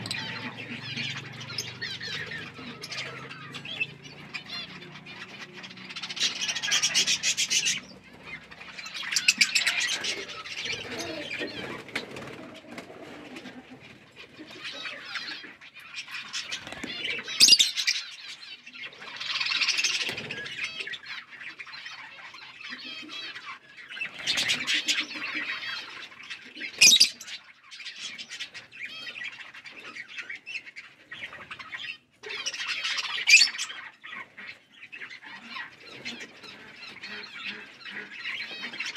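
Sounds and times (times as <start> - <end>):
parrots chirping: 0.0 - 12.4, 13.2 - 38.9.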